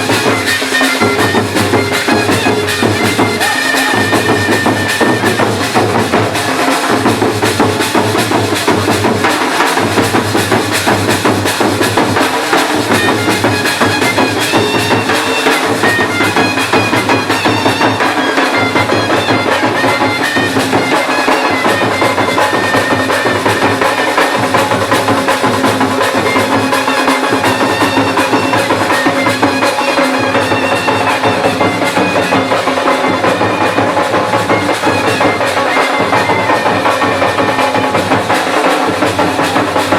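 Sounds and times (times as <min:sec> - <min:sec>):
shehnai melody: 0:00.0 - 0:10.8, 0:11.4 - 0:39.9
cymbals: 0:00.0 - 0:39.9
fast drumming: 0:00.0 - 0:39.9.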